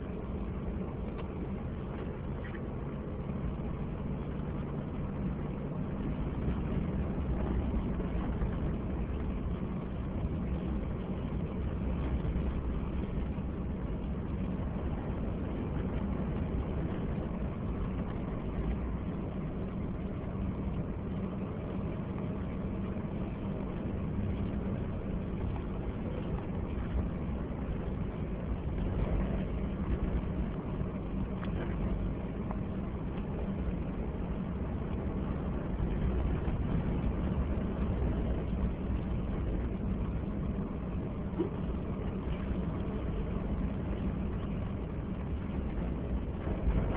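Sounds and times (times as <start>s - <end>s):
vehicle engine and road rumble: 0.0s - 46.9s.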